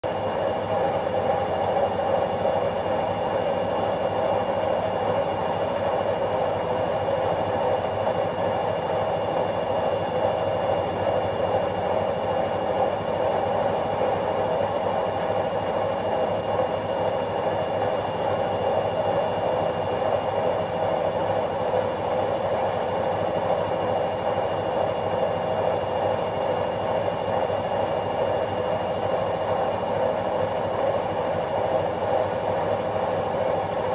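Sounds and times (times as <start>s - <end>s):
washing machine whirring: 0.0s - 33.9s.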